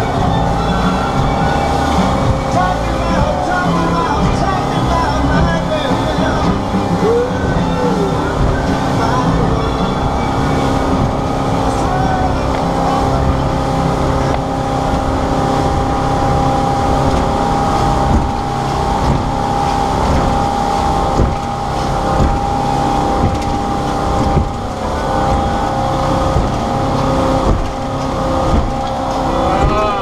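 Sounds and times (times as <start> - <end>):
motorboat engine running: 0.0 - 30.0
rushing wind: 0.0 - 30.0
water noise: 0.0 - 30.0.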